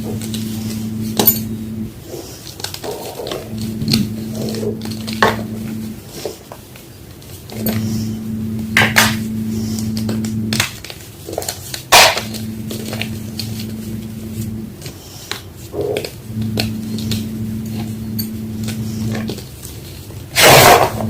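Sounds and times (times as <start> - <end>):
low steady hum: 0.0 - 2.4, 3.1 - 6.4, 7.3 - 10.9, 11.9 - 15.2, 16.0 - 21.0.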